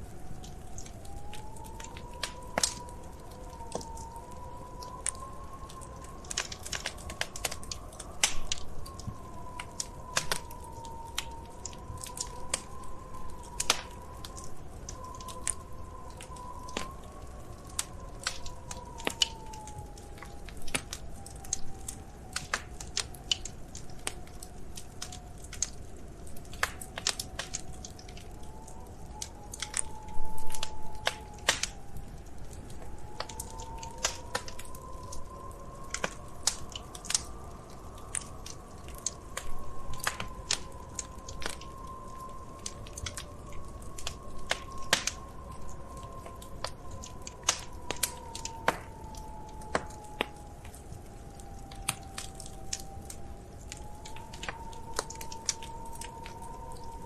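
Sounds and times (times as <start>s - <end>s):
faint wavering whistle: 0.0s - 25.3s, 26.7s - 57.0s
wood fire crackling: 0.0s - 57.0s.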